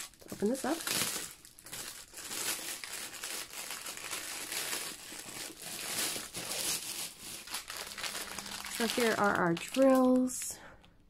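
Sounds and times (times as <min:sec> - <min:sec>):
plastic wrap crinkling: 0:00.0 - 0:10.6.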